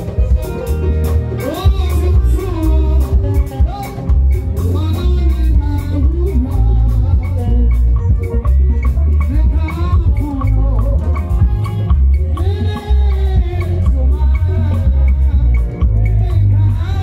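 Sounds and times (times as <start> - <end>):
amplified backing band: 0.0 - 17.0.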